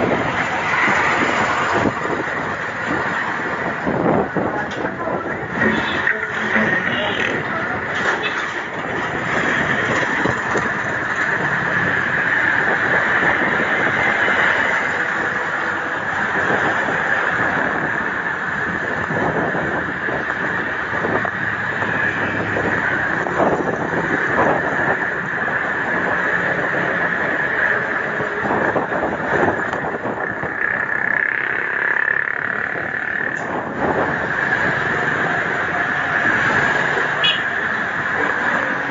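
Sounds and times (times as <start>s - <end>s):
road noise while cycling: 0.0s - 38.9s
wind: 0.0s - 38.9s.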